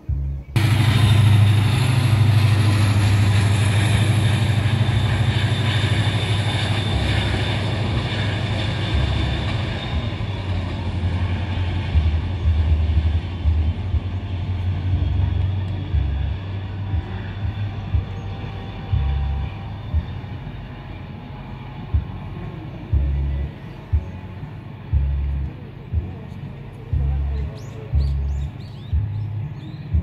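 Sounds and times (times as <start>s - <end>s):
passenger train rumbling past: 0.1s - 30.0s.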